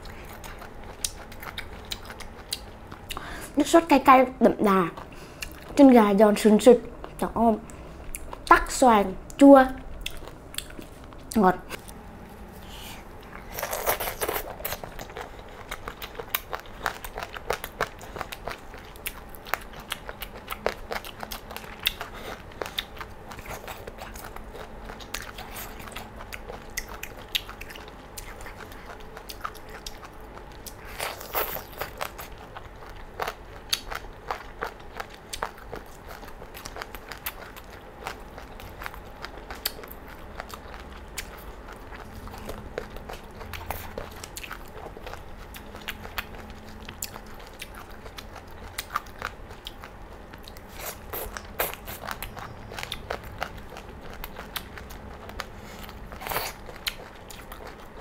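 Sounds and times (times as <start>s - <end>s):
crunching and chewing: 0.0s - 3.4s, 9.3s - 58.0s.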